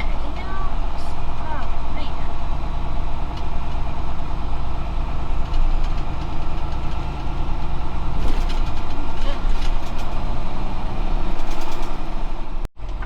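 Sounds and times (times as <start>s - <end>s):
truck diesel engine humming: 0.0s - 13.0s.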